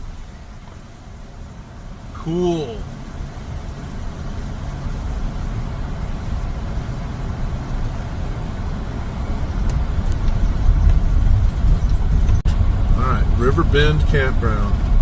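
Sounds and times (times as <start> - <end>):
van engine and road noise: 0.0 - 15.0.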